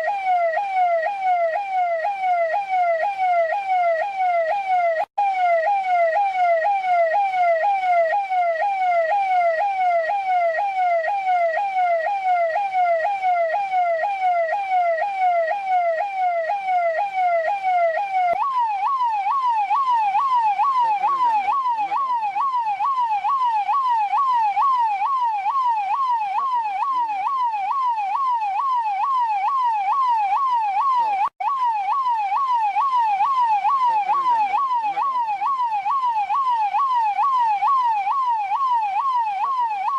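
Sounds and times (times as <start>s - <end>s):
police siren fast yelp: 0.0s - 39.9s.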